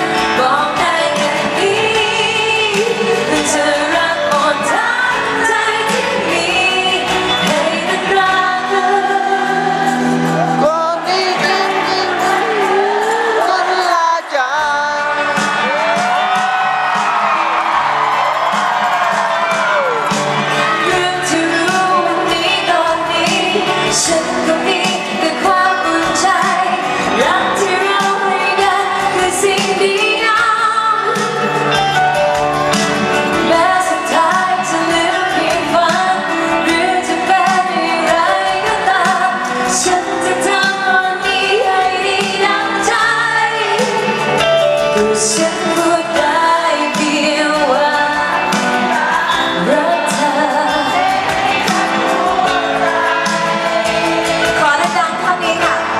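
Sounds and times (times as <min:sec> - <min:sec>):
woman singing: 0:00.0 - 0:16.2, 0:19.6 - 0:31.8, 0:33.2 - 0:55.9
band accompaniment: 0:00.0 - 0:55.9.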